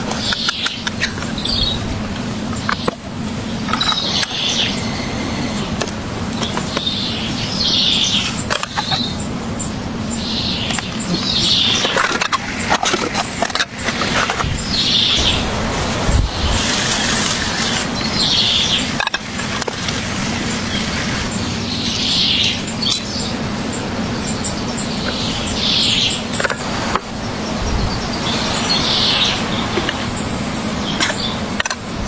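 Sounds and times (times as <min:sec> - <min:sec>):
birds chirping: 0:00.0 - 0:32.0
low background hum: 0:00.0 - 0:32.0.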